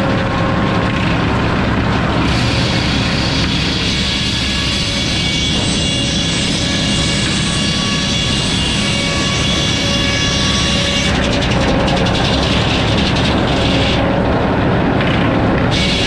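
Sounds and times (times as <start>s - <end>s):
sawmill sawing a log: 0.0s - 16.0s.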